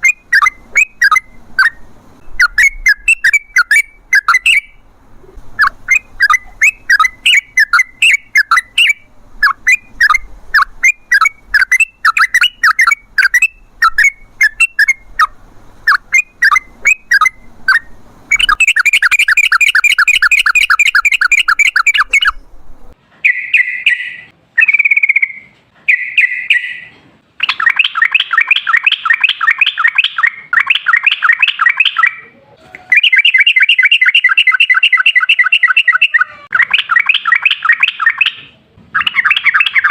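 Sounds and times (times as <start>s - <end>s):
bulbul singing: 0.0s - 32.2s, 32.9s - 38.4s.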